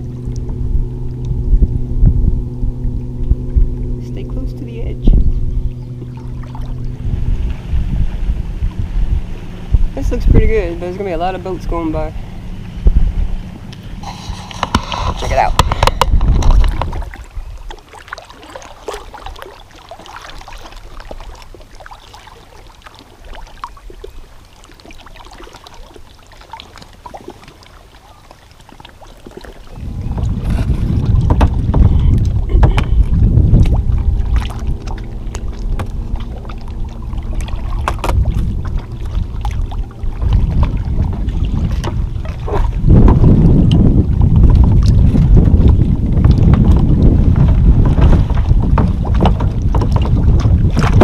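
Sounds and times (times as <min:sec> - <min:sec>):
wind buffeting microphone: 0:00.0 - 0:21.8, 0:29.3 - 0:51.0
paddle splashes and knocks: 0:00.0 - 0:51.0
water lapping: 0:00.0 - 0:51.0.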